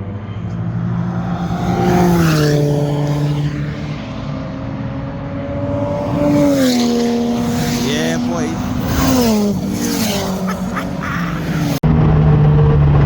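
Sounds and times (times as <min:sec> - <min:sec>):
rotary engine revving: 0:00.0 - 0:11.8.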